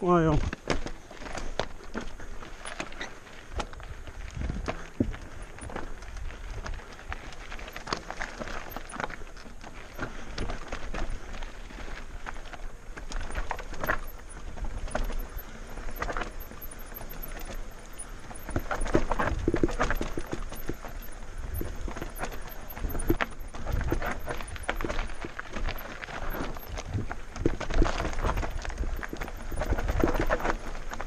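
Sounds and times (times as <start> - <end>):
bike knocking and rattling over stones: 0.0 - 31.0
wind rumbling on microphone: 2.9 - 31.0.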